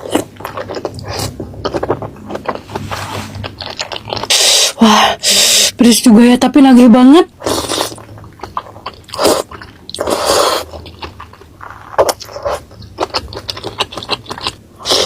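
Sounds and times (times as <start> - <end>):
wet chewing: 0.0 - 4.8, 7.4 - 15.0.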